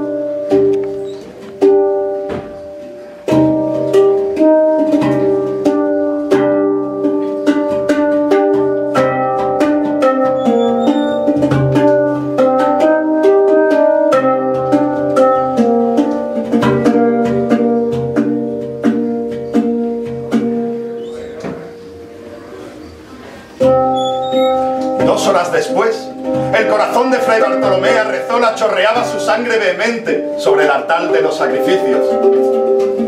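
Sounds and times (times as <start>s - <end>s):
hang drum melody: 0.0s - 22.7s, 23.4s - 33.0s.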